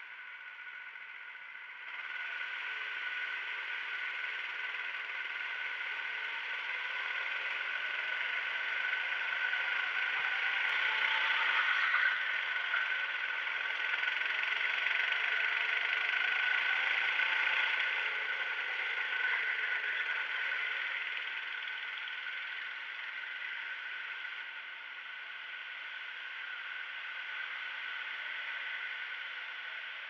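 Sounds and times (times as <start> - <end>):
go-kart engine under throttle: 0.2 - 30.0.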